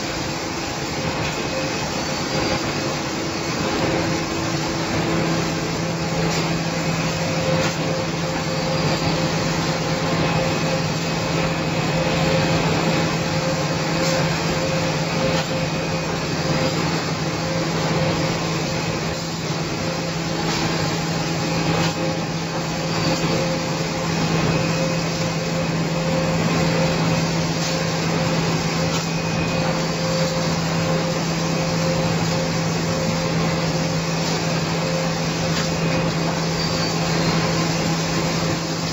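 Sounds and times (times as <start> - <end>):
packing machine drone: 0.0 - 38.9.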